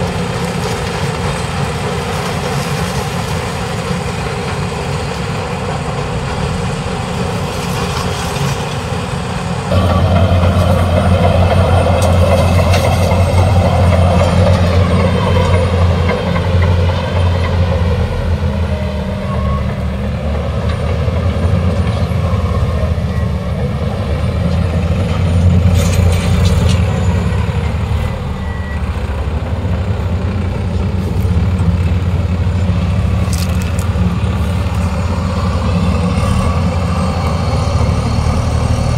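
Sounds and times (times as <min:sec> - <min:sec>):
diesel engines running under load: 0:00.0 - 0:38.9.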